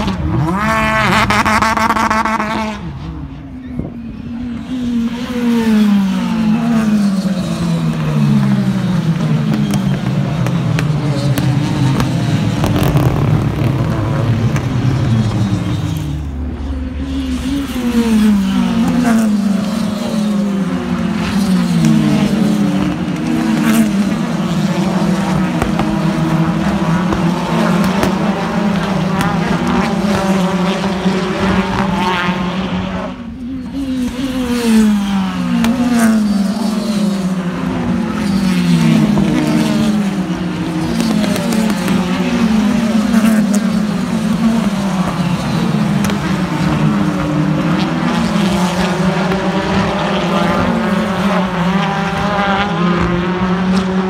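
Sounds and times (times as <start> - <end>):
racing car engines revving past: 0.0 - 54.0.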